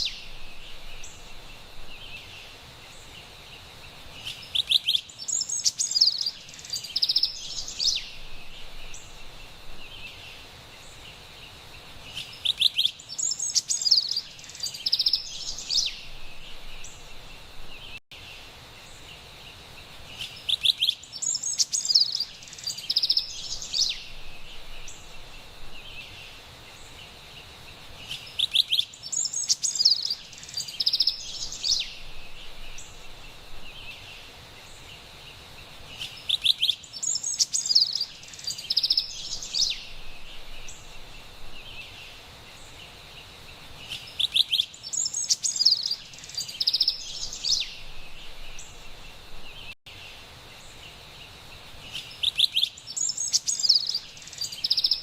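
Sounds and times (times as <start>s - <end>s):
wren singing: 0.0s - 3.2s, 4.2s - 18.0s, 20.1s - 27.1s, 28.0s - 35.0s, 35.9s - 42.9s, 43.8s - 49.8s, 50.6s - 55.0s
faint background hiss: 0.0s - 55.0s.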